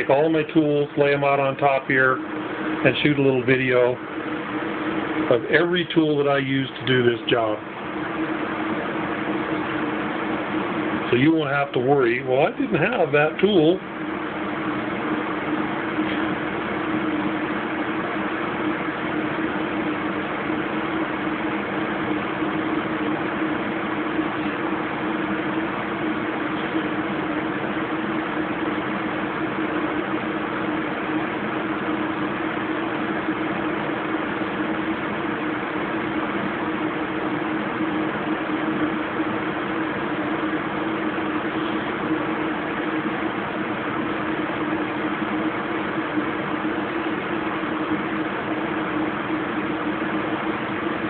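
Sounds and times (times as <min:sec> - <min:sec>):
washing machine spinning: 0:00.0 - 0:51.0.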